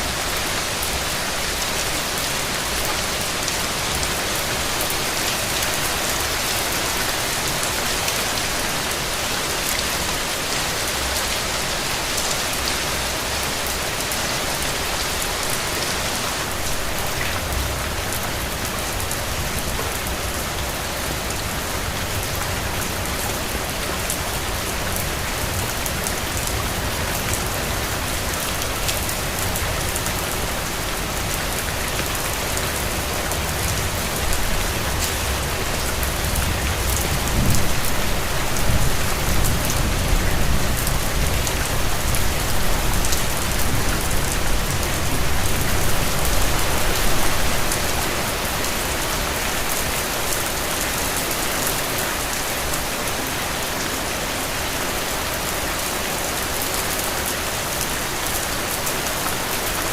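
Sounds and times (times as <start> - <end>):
rain falling on a surface: 0.0 - 59.9.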